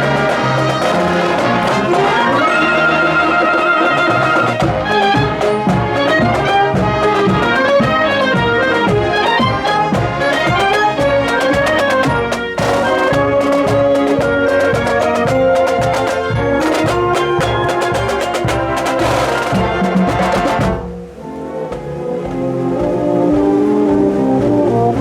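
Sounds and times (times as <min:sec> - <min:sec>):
brass melody: 0:00.0 - 0:25.0
marching drum beat: 0:00.0 - 0:25.0.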